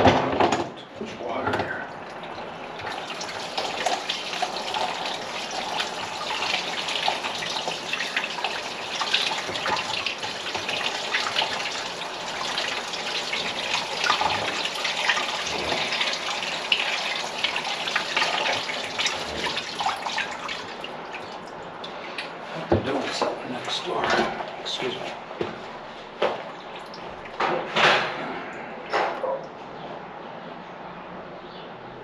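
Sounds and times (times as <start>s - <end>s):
water sloshing in a bucket: 1.2s - 29.3s.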